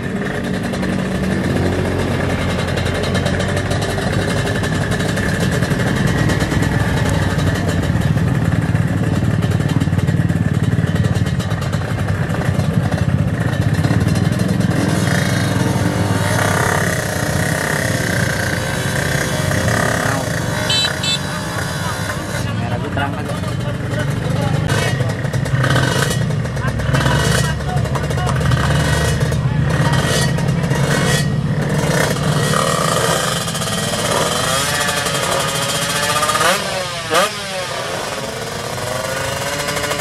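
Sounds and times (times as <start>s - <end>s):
motorcycle engine at high revs: 0.0s - 40.0s.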